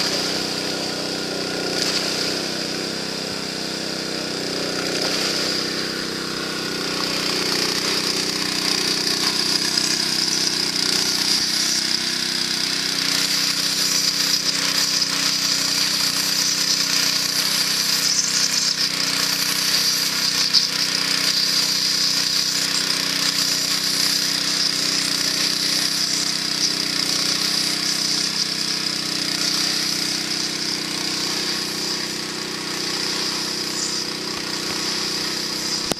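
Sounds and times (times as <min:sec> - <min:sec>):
water pump engine running: 0:00.0 - 0:35.9.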